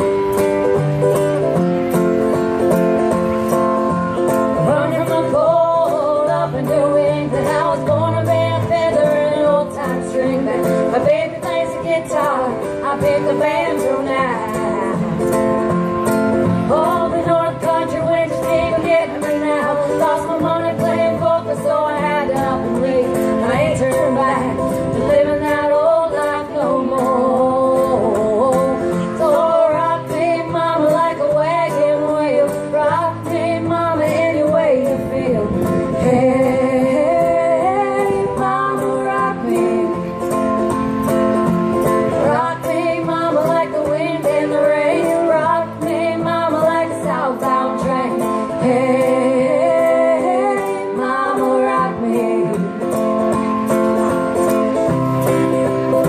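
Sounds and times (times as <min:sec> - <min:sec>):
acoustic guitar strumming: 0:00.0 - 0:56.0
women singing: 0:04.5 - 0:15.3, 0:16.4 - 0:40.6, 0:41.8 - 0:54.0.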